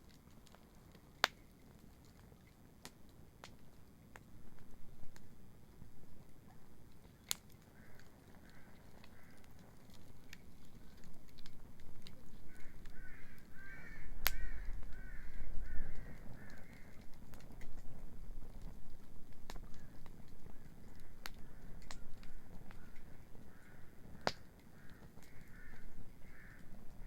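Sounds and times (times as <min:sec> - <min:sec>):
bonfire crackling and popping: 0:00.0 - 0:27.0.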